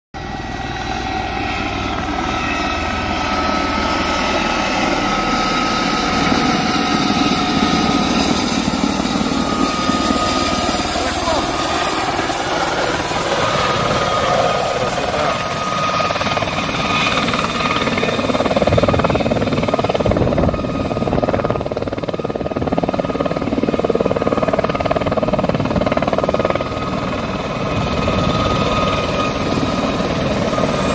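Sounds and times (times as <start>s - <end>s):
helicopter rotor chop: 0.2s - 30.9s
high thin turbine whine: 0.2s - 30.9s.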